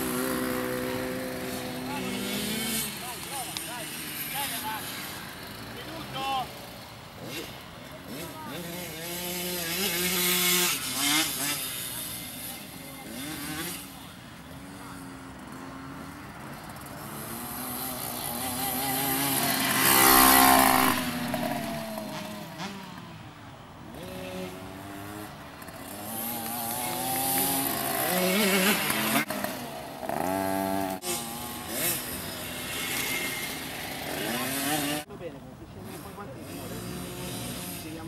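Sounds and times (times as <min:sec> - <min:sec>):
minibike engines revving: 0:00.0 - 0:38.0.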